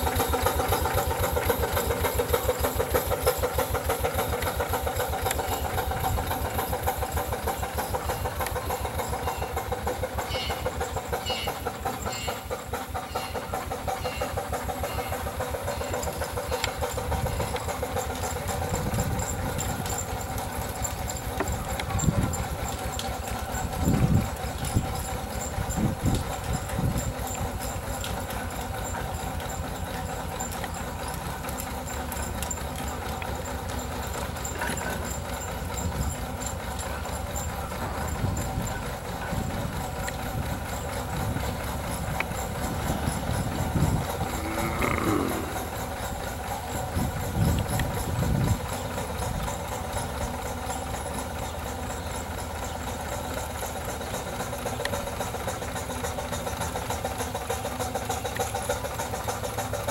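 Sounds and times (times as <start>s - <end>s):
steam traction engine running: 0.0s - 59.9s.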